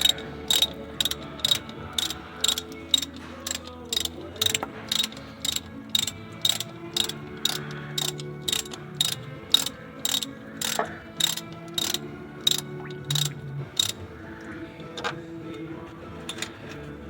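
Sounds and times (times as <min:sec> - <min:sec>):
ratchet wrench clicking: 0:00.0 - 0:14.0.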